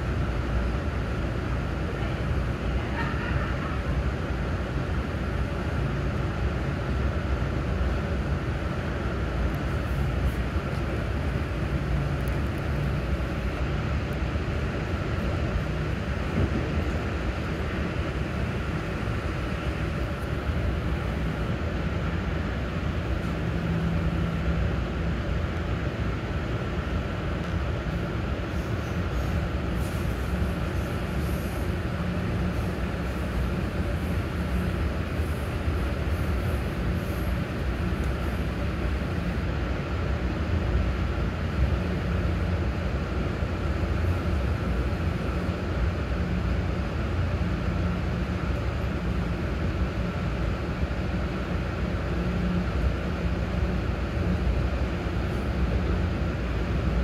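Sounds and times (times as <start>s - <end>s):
rumble of train wheels on rail: 0.0s - 57.0s.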